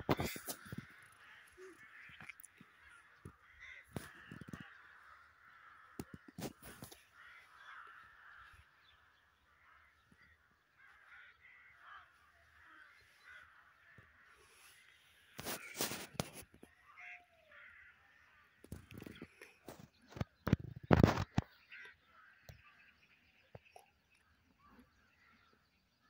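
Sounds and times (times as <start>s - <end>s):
crows cawing: 0.0s - 20.2s, 20.9s - 23.1s, 24.6s - 25.6s.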